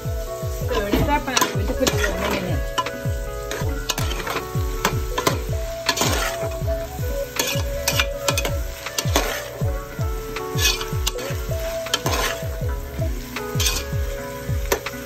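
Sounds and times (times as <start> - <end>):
food sizzling in pot: 0.0 - 15.0
music with low beat: 0.0 - 15.0.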